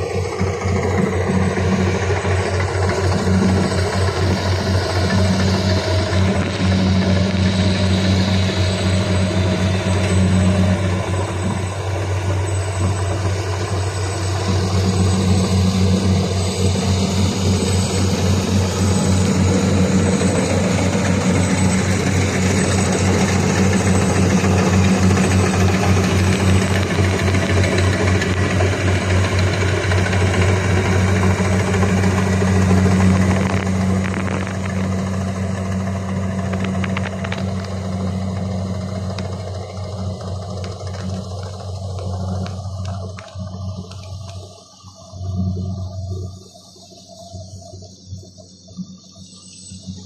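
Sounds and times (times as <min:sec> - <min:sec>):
combine harvester engine hum: 0:00.0 - 0:50.0.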